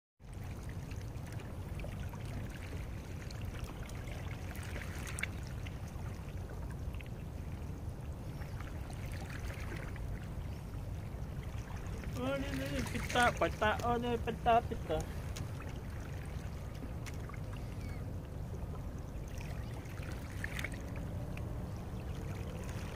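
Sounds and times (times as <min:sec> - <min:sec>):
water lapping at rocky shore: 0:00.2 - 0:22.9
steady low rumble: 0:00.3 - 0:22.9.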